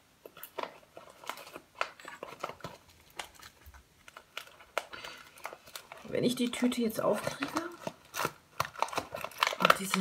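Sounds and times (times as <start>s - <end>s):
paper bag crinkling: 0.4s - 10.0s.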